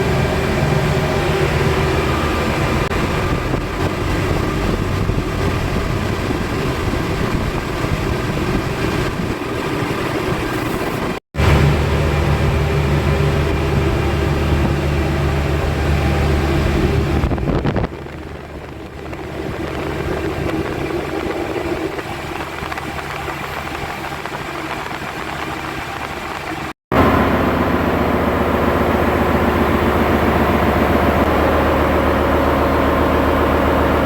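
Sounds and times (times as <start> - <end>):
engine room machinery hum: 0.0 - 34.0.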